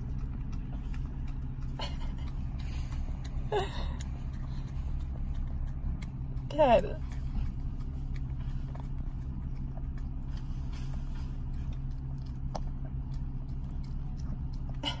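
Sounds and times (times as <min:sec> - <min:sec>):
car idling hum: 0:00.0 - 0:15.0
dog lapping cream: 0:00.0 - 0:15.0.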